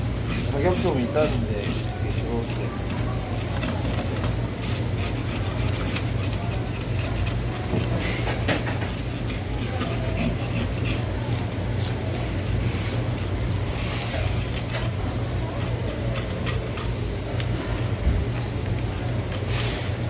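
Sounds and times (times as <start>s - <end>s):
knife scraping fish scales: 0.0s - 17.9s
steady low hum: 0.0s - 20.0s.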